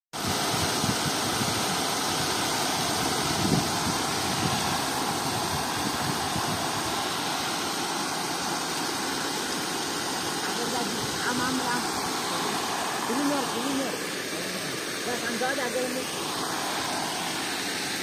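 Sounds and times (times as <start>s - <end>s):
water rushing over a weir: 0.2s - 18.0s.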